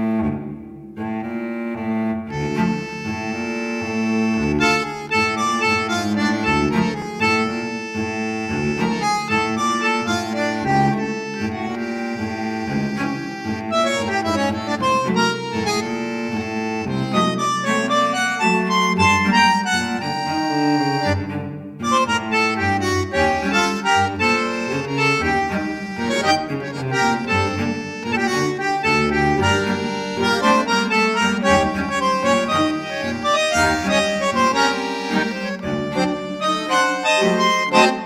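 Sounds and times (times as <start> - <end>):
instrumental tune with bass line: 0.0 - 38.0.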